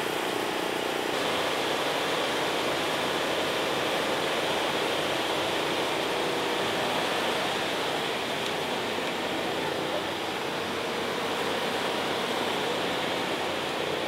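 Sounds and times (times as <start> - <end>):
electric fan air rush: 0.0 - 14.0.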